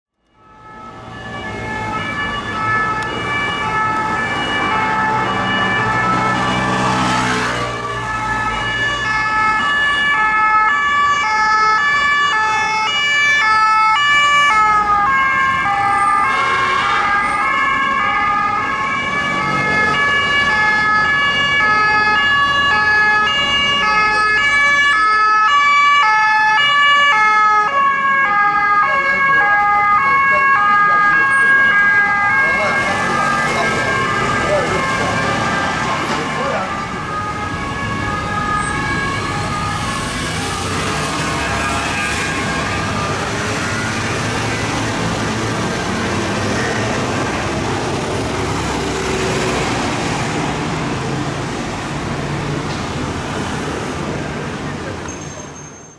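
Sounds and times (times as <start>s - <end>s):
two-tone police siren: 0.1s - 55.0s
city traffic: 0.1s - 55.9s.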